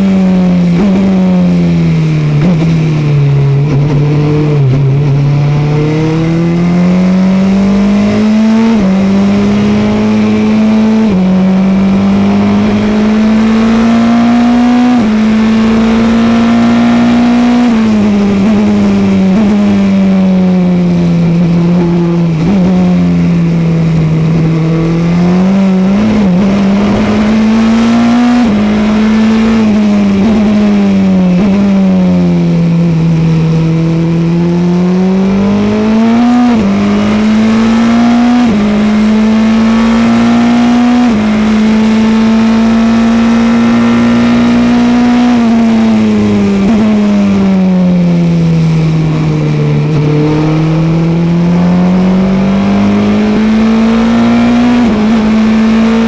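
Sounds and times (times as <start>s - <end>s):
racing car engine: 0.0s - 56.0s.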